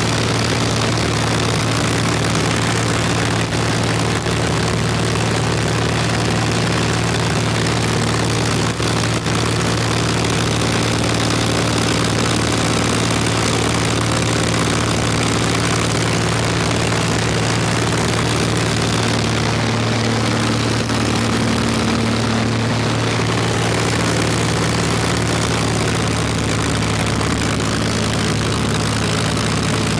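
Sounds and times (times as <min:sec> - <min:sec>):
propeller plane engine droning: 0:00.0 - 0:29.9.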